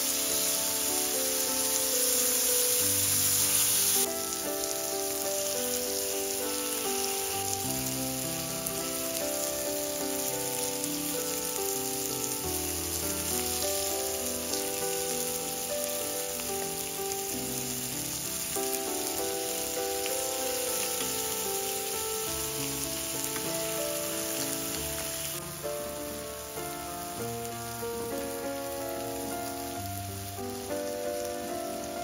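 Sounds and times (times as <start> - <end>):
tomato slices sizzling in oil: 0.0 - 32.0.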